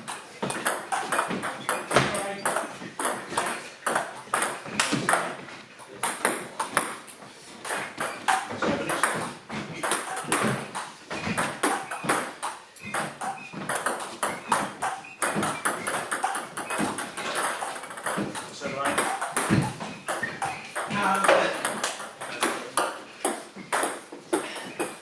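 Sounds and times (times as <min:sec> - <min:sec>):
table tennis ball pinging: 0:00.0 - 0:25.0.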